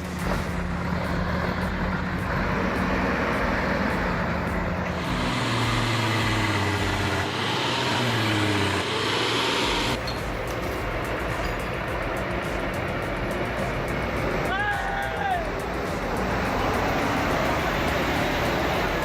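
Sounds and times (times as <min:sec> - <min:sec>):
heavy truck engine running: 0:00.0 - 0:19.0.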